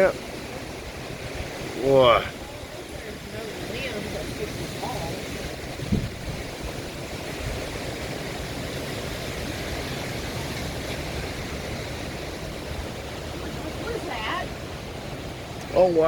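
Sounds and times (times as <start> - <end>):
gusty wind rushing through trees: 0.0 - 16.0
wind buffeting microphone: 0.0 - 16.0.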